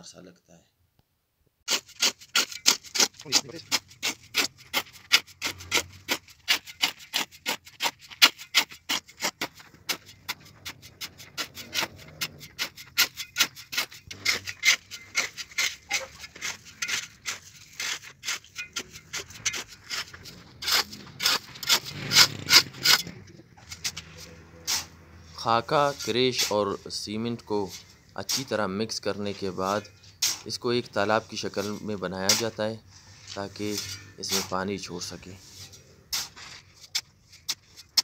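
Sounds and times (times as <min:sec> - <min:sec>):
shovel scraping concrete floor: 0:01.7 - 0:38.0.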